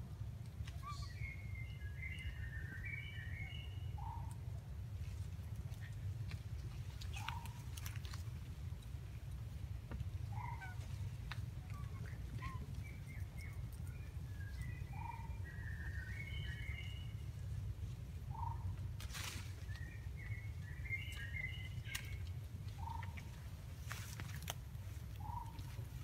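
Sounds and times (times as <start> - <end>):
steady low rumble: 0.0 - 26.0
birds chirping and twittering: 0.6 - 26.0.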